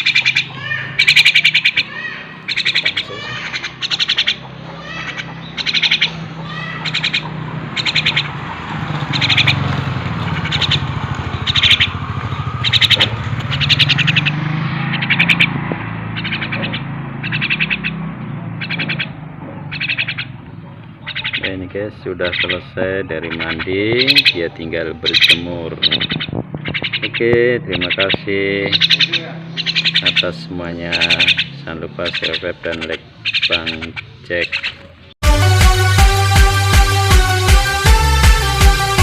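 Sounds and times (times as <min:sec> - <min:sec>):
bird squawking calls: 0:00.0 - 0:35.1.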